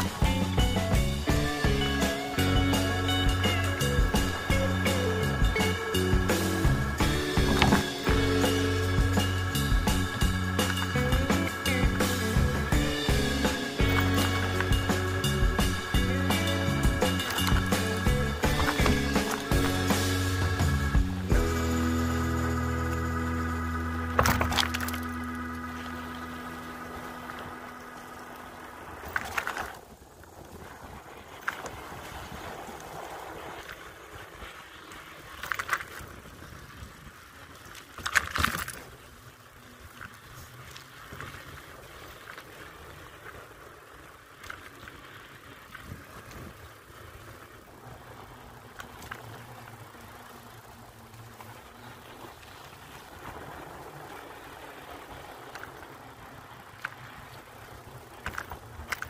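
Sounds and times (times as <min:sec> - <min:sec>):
bicycle rolling on wooden planks: 0:00.0 - 0:21.6, 0:22.7 - 0:59.0.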